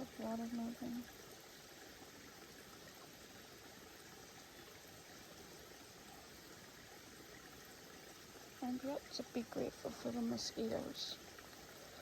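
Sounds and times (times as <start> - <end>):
faint waterfall rushing: 0.0 - 12.0.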